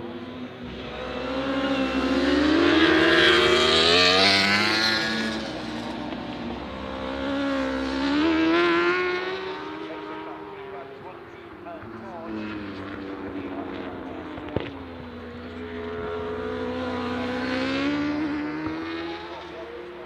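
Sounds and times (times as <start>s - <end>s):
racing motorcycles accelerating past: 0.0s - 20.0s.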